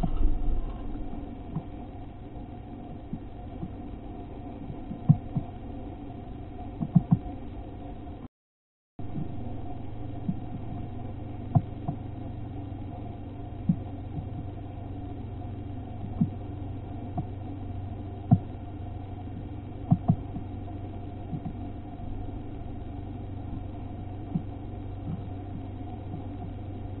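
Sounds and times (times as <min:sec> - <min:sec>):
steady low hum: 0:00.0 - 0:08.3, 0:09.0 - 0:27.0.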